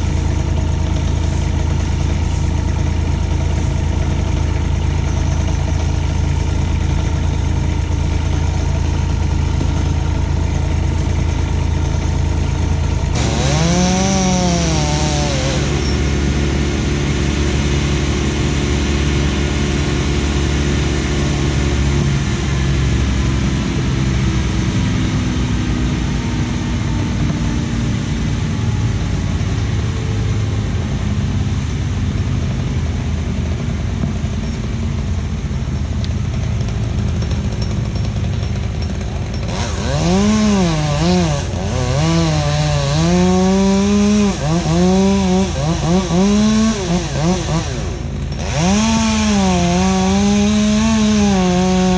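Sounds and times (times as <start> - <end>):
chainsaw revving: 0.0 - 27.2, 34.9 - 51.9
engine running steadily: 0.0 - 51.9.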